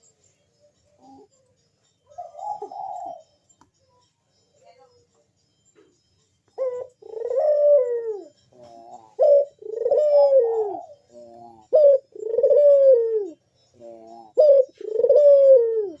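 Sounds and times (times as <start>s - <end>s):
dove cooing: 0.0s - 3.5s, 6.5s - 16.0s.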